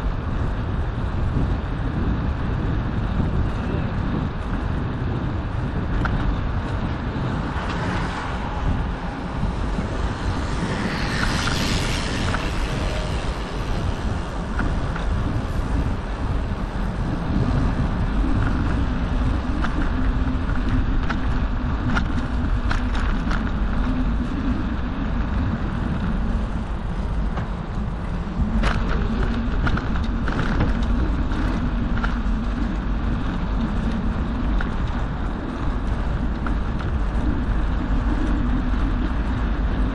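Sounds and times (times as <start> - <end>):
bike tyres rolling on asphalt: 0.0 - 39.9
wind on microphone: 0.0 - 39.9
bike clicks and rattles: 0.2 - 39.9.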